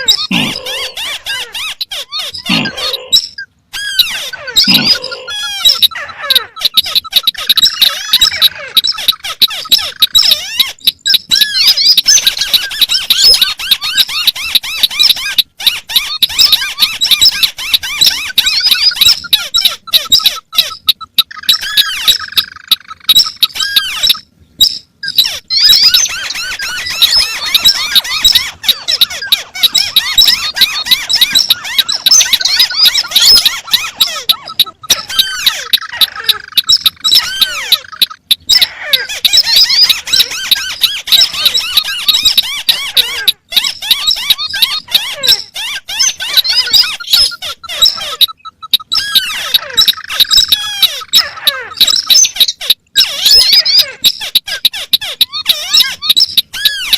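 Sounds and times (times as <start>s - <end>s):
birds chirping and squeaking: 0.0s - 56.9s.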